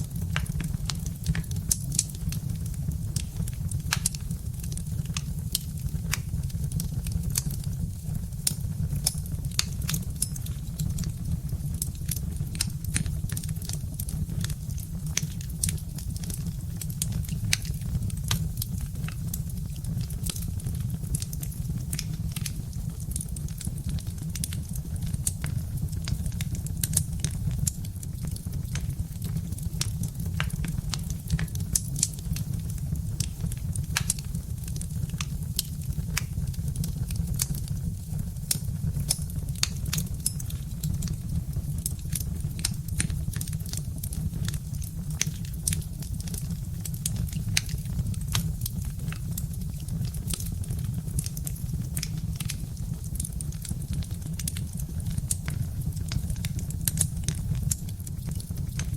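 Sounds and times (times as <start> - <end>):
fire crackling and popping: 0.0 - 58.9.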